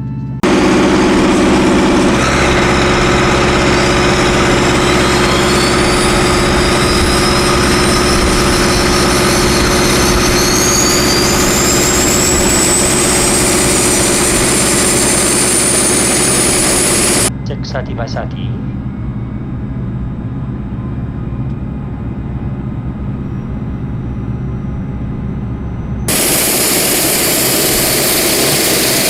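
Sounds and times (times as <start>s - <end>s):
engine starter drone: 0.4s - 29.0s
turbine whine rising in pitch: 0.4s - 29.0s.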